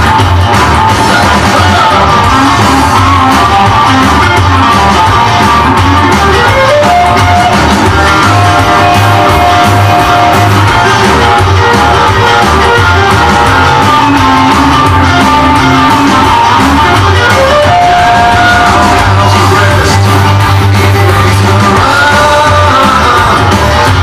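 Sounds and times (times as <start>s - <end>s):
rockabilly guitar music: 0.0s - 24.0s
steady bass beat: 0.0s - 24.0s.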